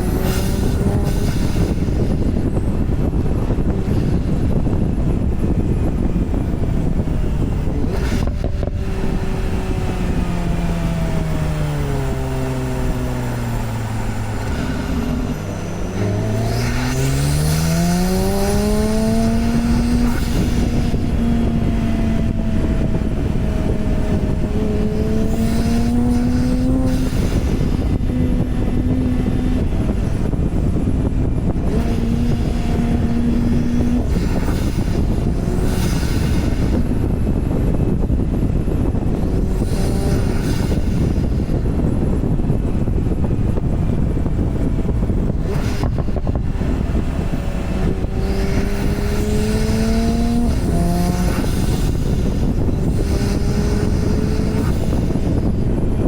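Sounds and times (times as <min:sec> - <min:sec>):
car engine accelerating: 0:00.0 - 0:56.0
road noise: 0:00.0 - 0:56.0.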